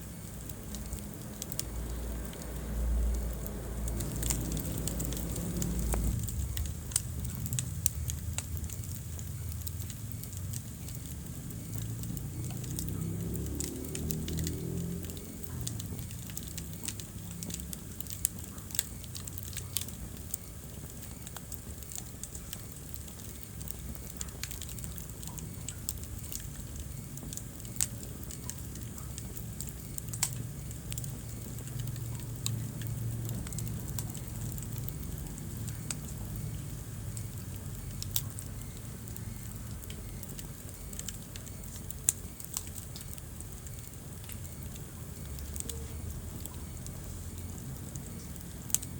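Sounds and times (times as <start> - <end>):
fire crackles and pops: 0.0 - 48.9
wood fire burning: 0.0 - 48.9.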